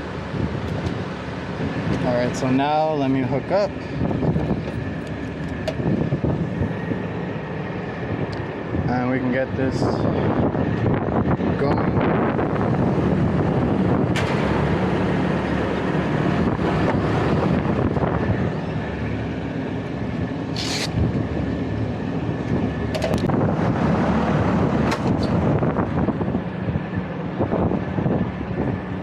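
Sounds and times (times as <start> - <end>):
hvac equipment droning: 0.0 - 29.0.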